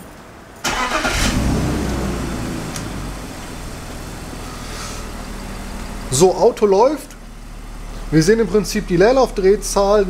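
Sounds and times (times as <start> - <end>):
car engine starting and idling: 0.3 - 10.0.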